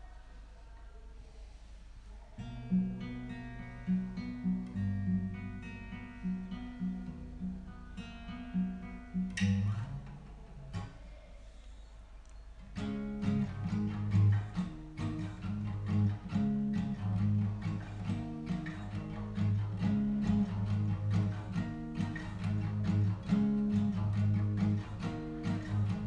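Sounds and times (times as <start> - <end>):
faint low hum: 0.0 - 26.0
acoustic guitar playing: 2.4 - 11.0, 12.6 - 26.0.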